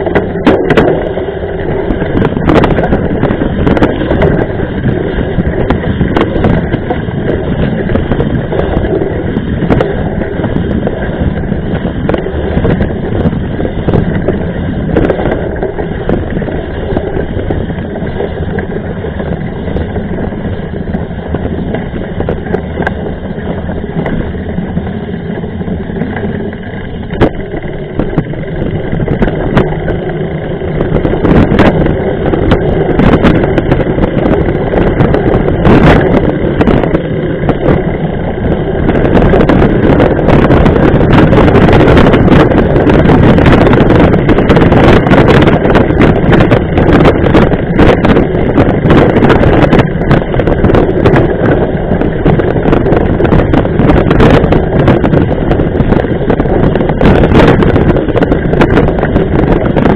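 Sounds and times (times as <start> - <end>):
bike tyre rolling over gravel: 0.0 - 59.9
wind on microphone: 0.0 - 59.9.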